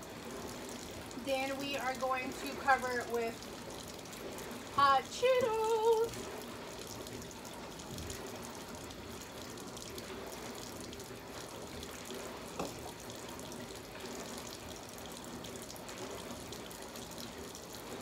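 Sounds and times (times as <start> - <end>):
water running: 0.0 - 18.0.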